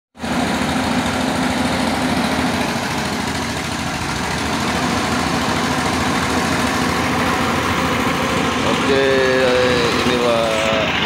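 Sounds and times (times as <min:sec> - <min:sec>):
excavator diesel engine running: 0:00.2 - 0:11.0.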